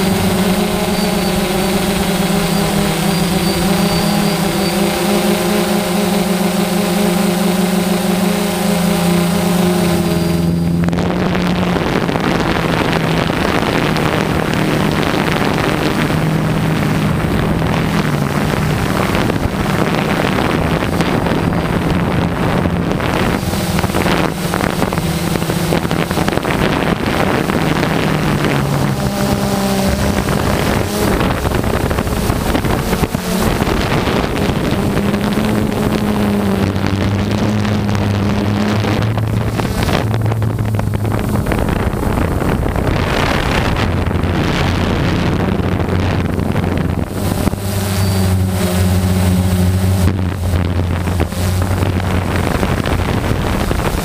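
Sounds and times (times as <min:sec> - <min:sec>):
drone propellers humming: 0:00.0 - 0:54.0
rushing wind noise: 0:00.0 - 0:54.0.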